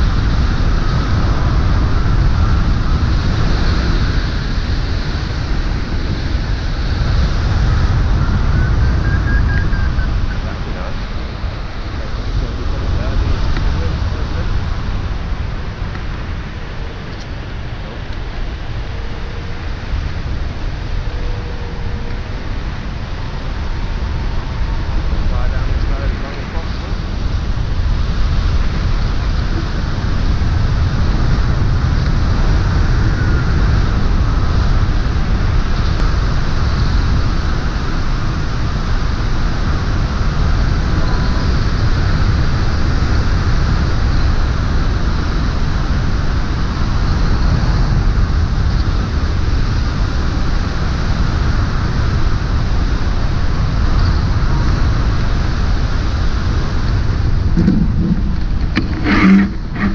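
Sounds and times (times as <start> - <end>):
wind rushing across microphone: 0.0 - 59.9.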